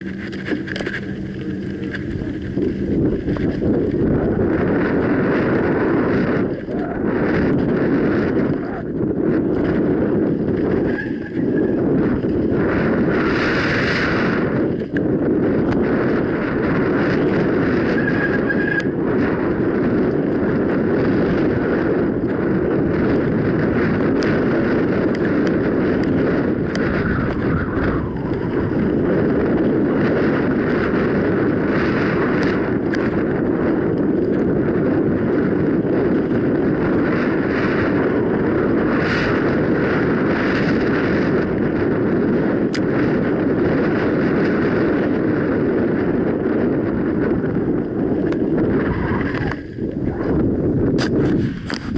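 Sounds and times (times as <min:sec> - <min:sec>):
bike clicks and rattles: 0:00.0 - 0:51.9
tyre noise on trail: 0:00.0 - 0:51.9
wind buffeting microphone: 0:00.0 - 0:51.9.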